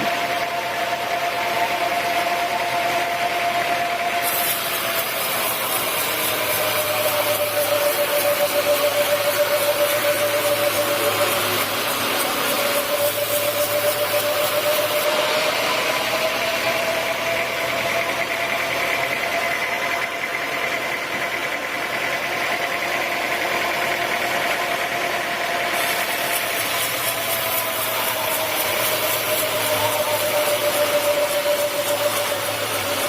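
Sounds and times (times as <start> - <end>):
sawmill saw humming: 0.0 - 33.0.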